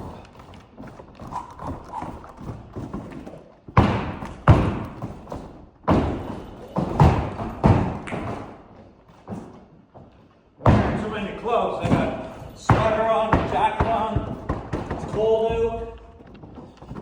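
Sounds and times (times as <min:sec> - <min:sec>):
basketball bouncing on hard floor: 0:00.0 - 0:09.5, 0:11.8 - 0:17.0.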